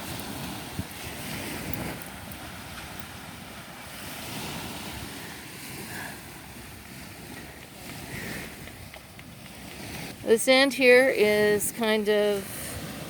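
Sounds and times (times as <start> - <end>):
small waves washing on beach: 0.0 - 13.0
wind buffeting microphone: 0.0 - 13.0.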